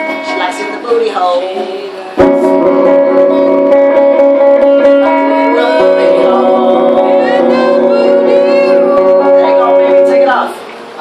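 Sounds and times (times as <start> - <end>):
guitar chords ringing: 0.0 - 11.0
wavering guitar melody: 0.0 - 11.0.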